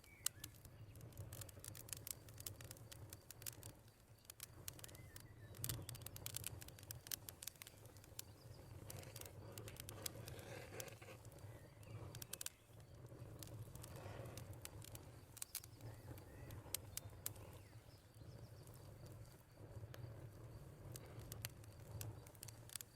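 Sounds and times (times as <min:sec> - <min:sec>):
fire pops and snaps: 0:00.0 - 0:22.9
wood fire crackling: 0:00.0 - 0:22.9.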